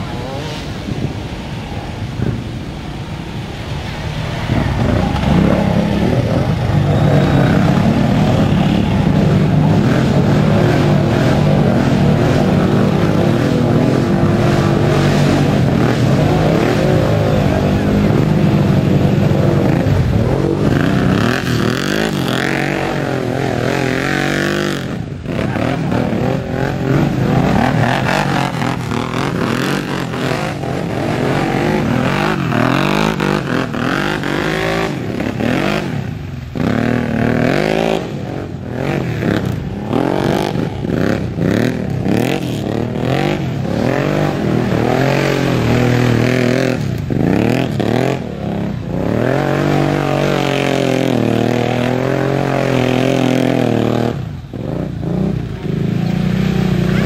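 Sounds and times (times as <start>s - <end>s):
quad bike engines revving: 0.0s - 57.0s.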